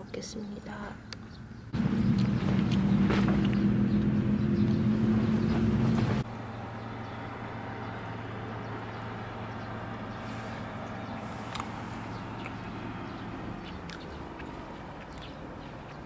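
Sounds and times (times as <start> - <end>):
low motor hum: 1.0 - 16.0.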